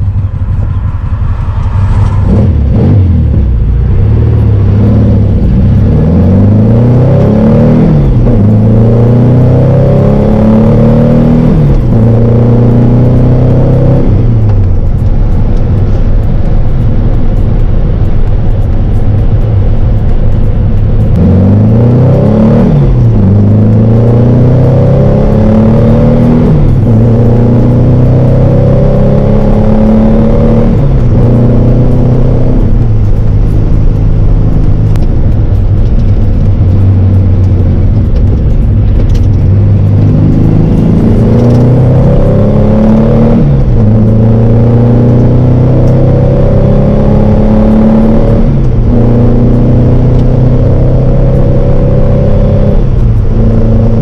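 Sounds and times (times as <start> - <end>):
car engine revving through gears: 0.0 - 54.0.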